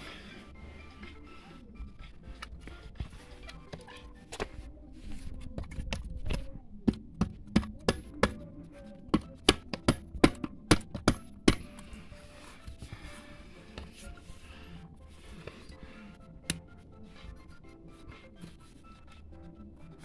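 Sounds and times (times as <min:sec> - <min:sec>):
scraping and handling noise: 0:00.0 - 0:20.0.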